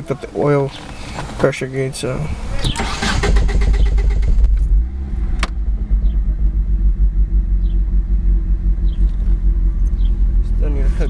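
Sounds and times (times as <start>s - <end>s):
car engine idling: 2.0s - 11.0s.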